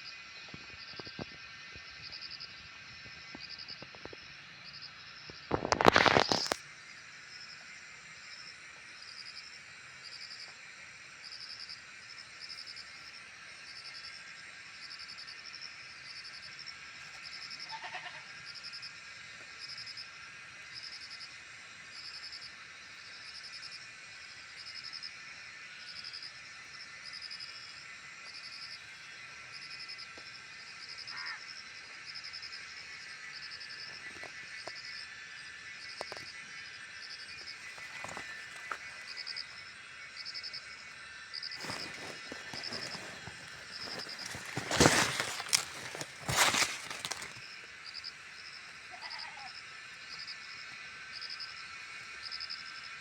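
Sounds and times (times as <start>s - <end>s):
high insect drone: 0.0s - 53.0s
insects chirping: 0.0s - 53.0s.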